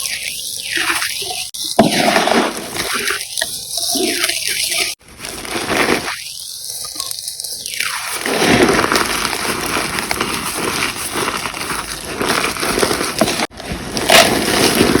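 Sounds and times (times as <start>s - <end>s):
chalk crackling: 0.0s - 15.0s
chalk crunch: 0.0s - 15.0s.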